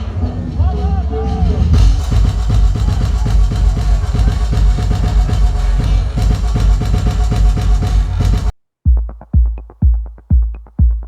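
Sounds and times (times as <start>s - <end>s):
loud music with heavy bass beat: 0.0s - 11.0s.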